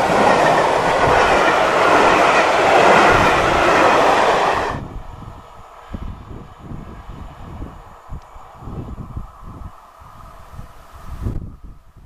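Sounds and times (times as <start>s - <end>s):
distant steam train: 0.0s - 11.2s
wind buffeting microphone: 0.0s - 12.0s.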